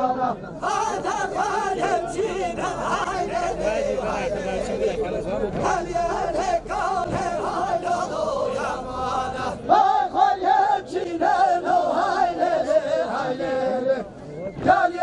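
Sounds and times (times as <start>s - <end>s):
men singing folk song together: 0.0s - 15.0s.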